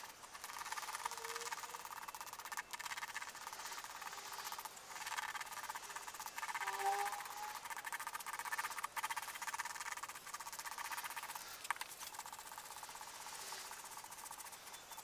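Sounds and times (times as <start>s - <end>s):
sanding wood by hand: 0.0s - 15.0s.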